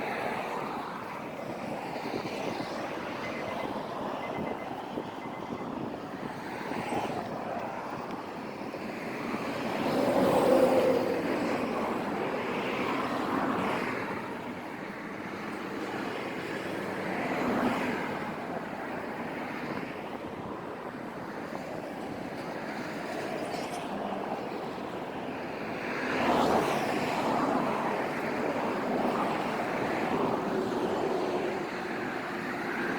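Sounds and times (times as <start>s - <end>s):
wind noise: 0.0s - 32.9s.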